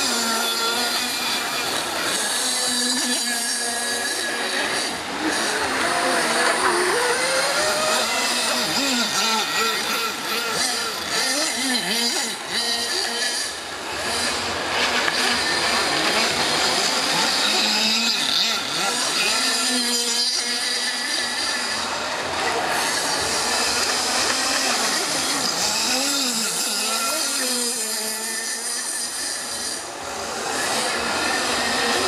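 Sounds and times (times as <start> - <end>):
small boat motors whining: 0.0 - 32.0.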